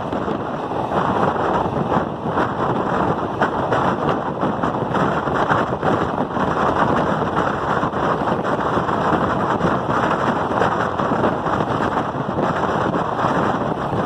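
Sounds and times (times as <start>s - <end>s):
train running noise: 0.0s - 14.0s
wind buffeting microphone: 0.0s - 14.0s.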